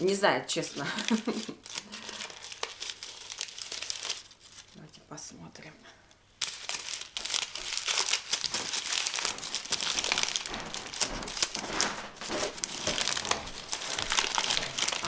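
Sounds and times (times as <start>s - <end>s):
gift wrapping crinkling: 0.0s - 5.0s, 6.3s - 15.0s.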